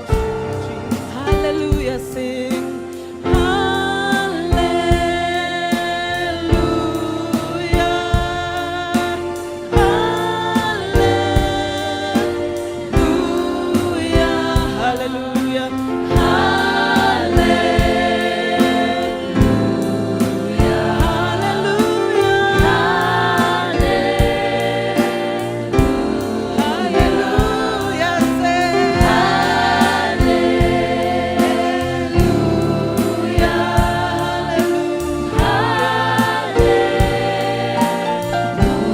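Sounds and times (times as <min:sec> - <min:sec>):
band with steady beat: 0:00.0 - 0:38.9
choir singing: 0:00.0 - 0:38.9.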